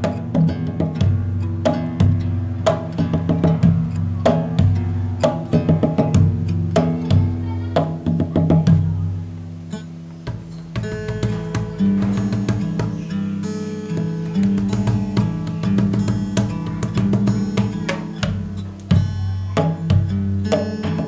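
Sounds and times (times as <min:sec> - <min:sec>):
wood block percussion beat: 0:00.0 - 0:09.0, 0:10.2 - 0:21.0.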